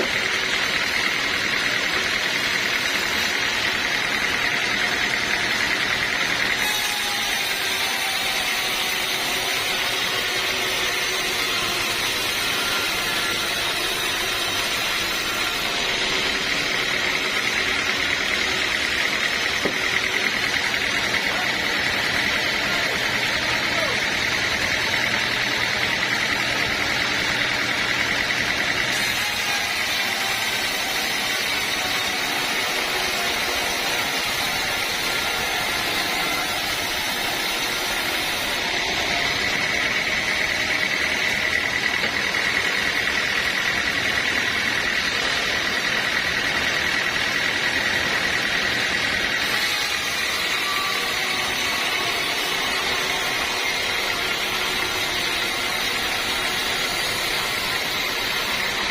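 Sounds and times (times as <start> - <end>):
bandsaw running with high whine: 0.0 - 58.9.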